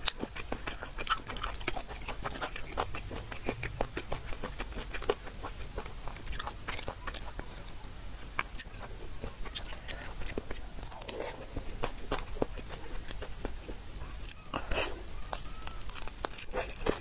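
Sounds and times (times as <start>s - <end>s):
person chewing and smacking: 0.0s - 17.0s.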